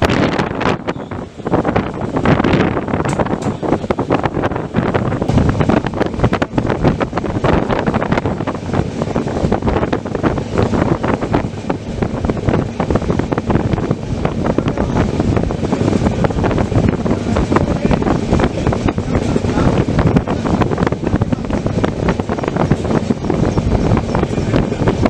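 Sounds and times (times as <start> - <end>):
train rumbling: 0.0 - 25.0
wheels clicking and rattling: 0.0 - 25.0
wind buffeting microphone: 0.0 - 25.0.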